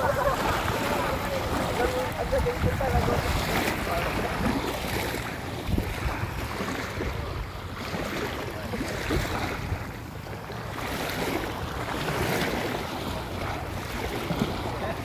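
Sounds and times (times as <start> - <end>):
small waves lapping on shore: 0.0 - 15.0
wind buffeting microphone: 0.0 - 15.0.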